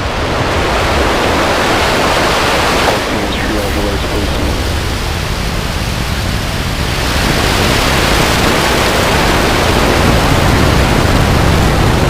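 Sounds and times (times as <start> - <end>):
rocket engines roaring: 0.1 - 11.1.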